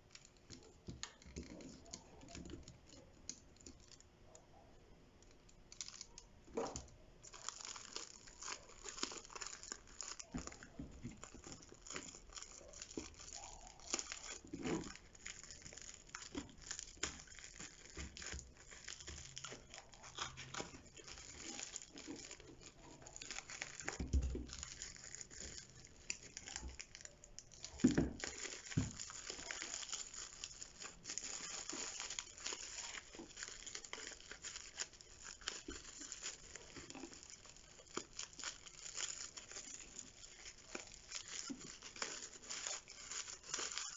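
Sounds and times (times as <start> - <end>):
packaging crinkling and rustling: 0.0 - 4.1, 5.3 - 43.9.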